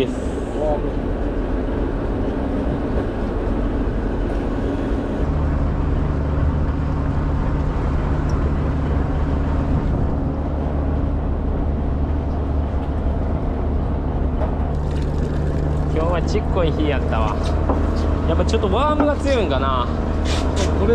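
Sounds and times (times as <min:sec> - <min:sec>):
boat engine humming: 0:00.0 - 0:20.9
wind and water noise: 0:00.0 - 0:20.9.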